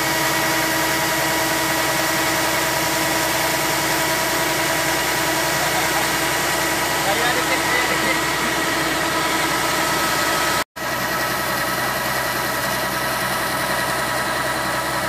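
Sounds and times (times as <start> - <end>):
auger whining: 0.0 - 15.0
diesel engine running: 0.0 - 15.0.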